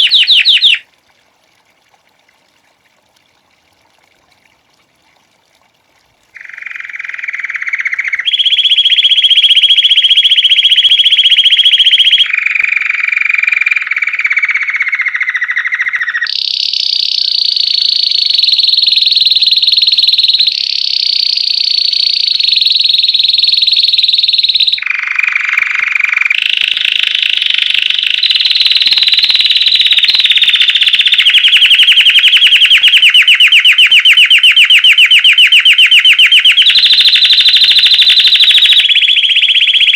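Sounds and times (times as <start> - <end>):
canary singing trills: 0.0 - 0.8, 6.4 - 39.9.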